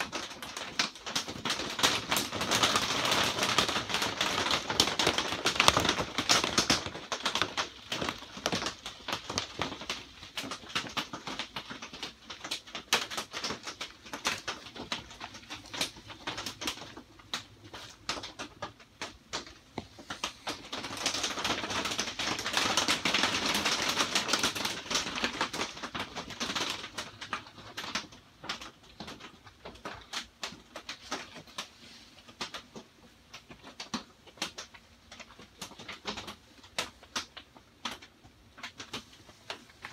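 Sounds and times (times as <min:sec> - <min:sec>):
rain pattering on greenhouse: 0:00.0 - 0:39.9.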